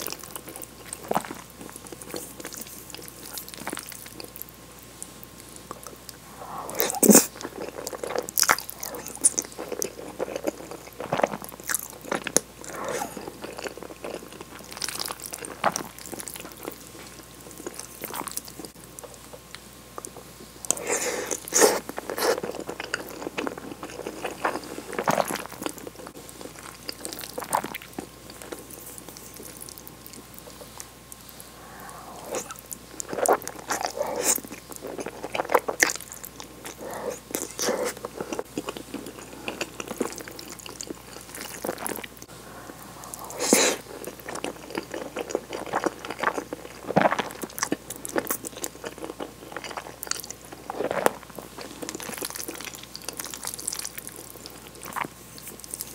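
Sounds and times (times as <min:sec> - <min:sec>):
chewing with wet mouth sounds: 0:00.0 - 0:55.9.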